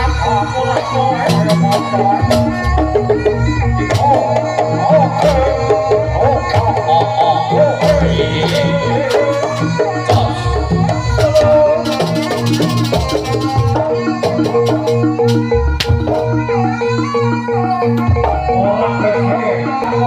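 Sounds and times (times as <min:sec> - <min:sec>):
percussion ensemble drum beat: 0:00.0 - 0:19.2
ornamented melody line: 0:00.0 - 0:20.0.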